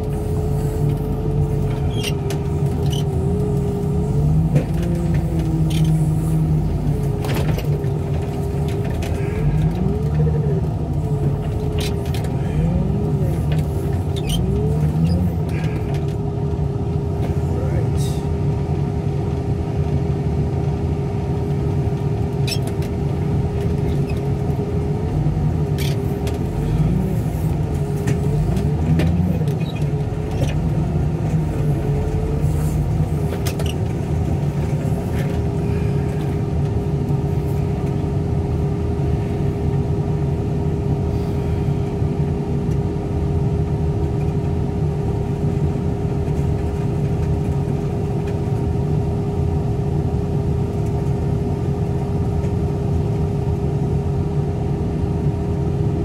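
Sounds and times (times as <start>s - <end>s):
diesel engine running with whine: 0.0s - 56.0s.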